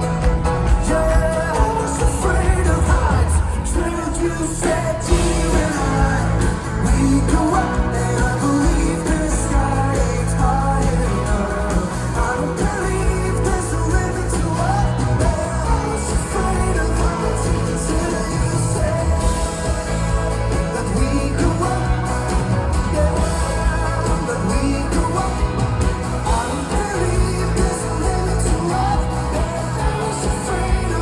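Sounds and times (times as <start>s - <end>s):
drums: 0.0s - 31.0s
folk-rock band playing live: 0.0s - 31.0s
person singing: 0.0s - 31.0s.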